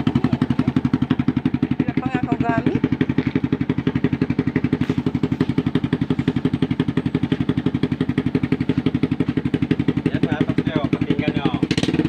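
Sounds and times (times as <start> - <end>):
motorcycle engine idling loudly: 0.0 - 12.0.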